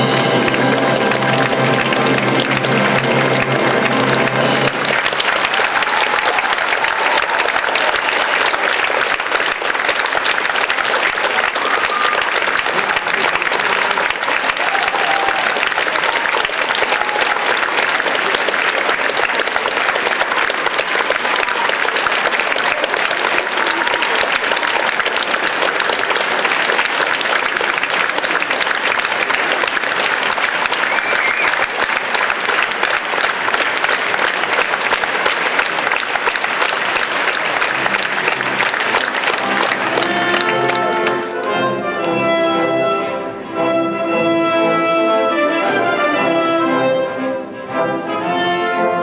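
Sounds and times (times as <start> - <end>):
orchestra playing: 0.0 - 5.9, 6.6 - 49.0
audience applauding: 0.0 - 42.2.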